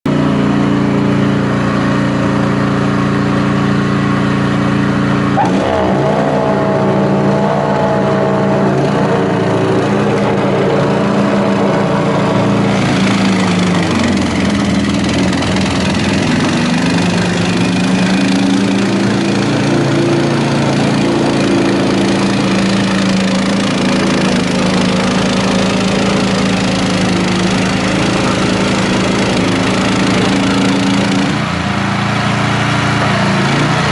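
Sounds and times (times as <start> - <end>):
snowblower engine running: 0.0 - 33.9.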